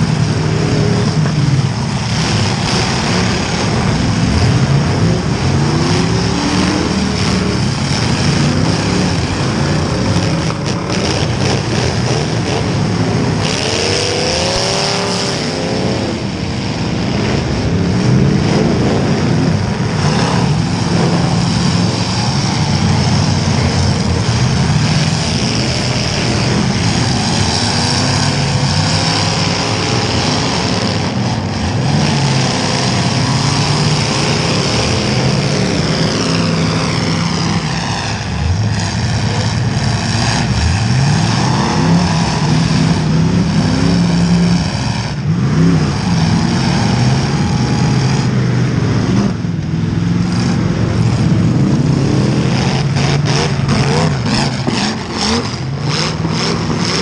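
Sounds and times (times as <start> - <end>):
car engine revving: 0.0 - 57.0
other car engines running: 0.0 - 57.0.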